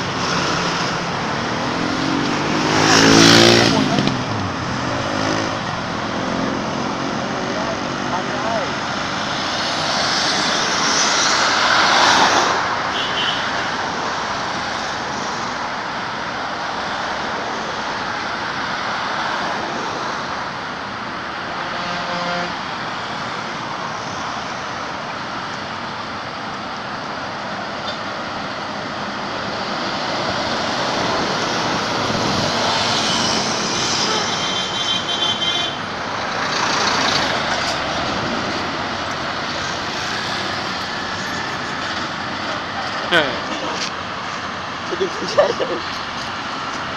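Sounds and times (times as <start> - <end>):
passing road traffic: 0.0 - 46.9.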